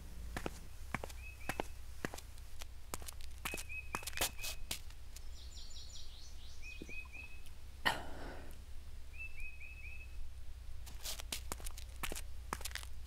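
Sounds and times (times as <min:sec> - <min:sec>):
steady low hum: 0:00.0 - 0:13.0
small birds chirping: 0:00.3 - 0:07.6, 0:09.0 - 0:13.0.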